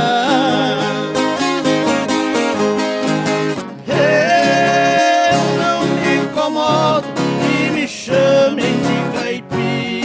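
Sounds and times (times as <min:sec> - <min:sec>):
plucked guitar phrase: 0:00.0 - 0:10.0.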